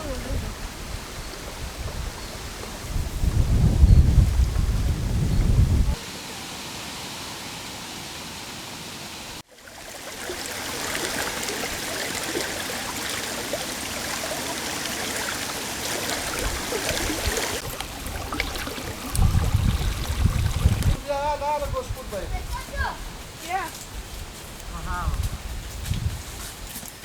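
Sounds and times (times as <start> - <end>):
running water rushing: 0.0 - 24.6.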